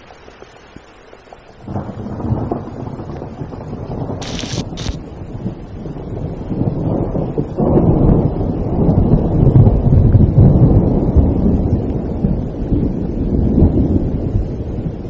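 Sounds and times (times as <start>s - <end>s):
steady rain: 0.0s - 15.0s
rolling thunder: 1.6s - 15.0s.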